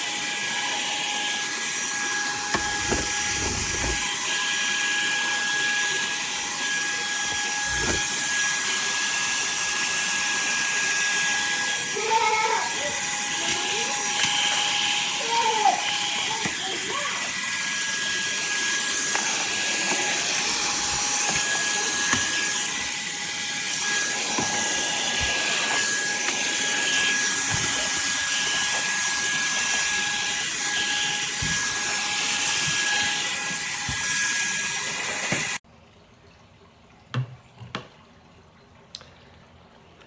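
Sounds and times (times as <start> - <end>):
handheld vacuum motor running: 0.0 - 35.6.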